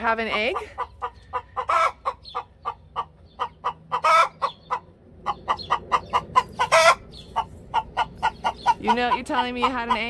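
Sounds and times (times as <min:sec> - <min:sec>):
hen cackling: 0:00.0 - 0:10.0.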